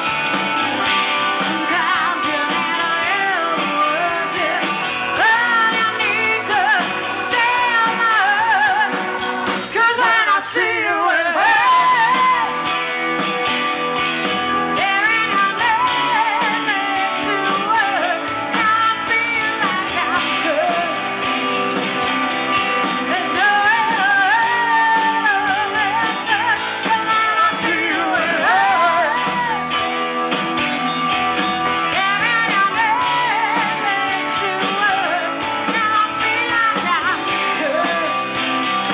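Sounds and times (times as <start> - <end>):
live rock band playing: 0.0 - 38.9
woman singing: 1.2 - 12.8, 14.7 - 21.4, 22.8 - 29.8, 31.8 - 38.9.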